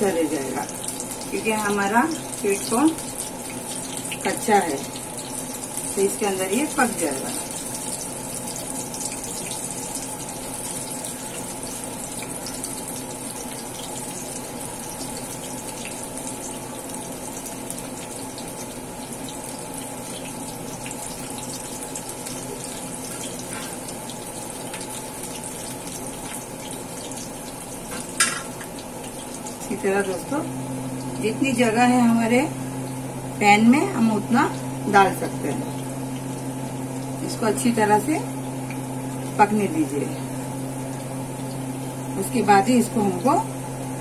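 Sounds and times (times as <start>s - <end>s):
food deep-frying in oil: 0.0s - 44.0s.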